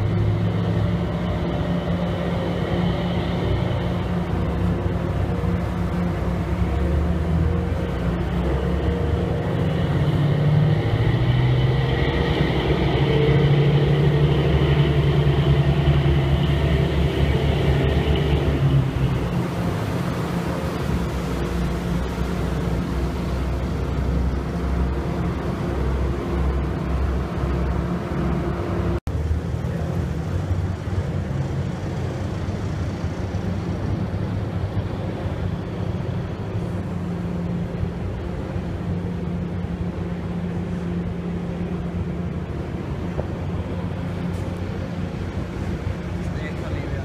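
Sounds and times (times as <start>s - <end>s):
churning water: 0.0s - 47.0s
ship engines droning: 0.0s - 47.0s.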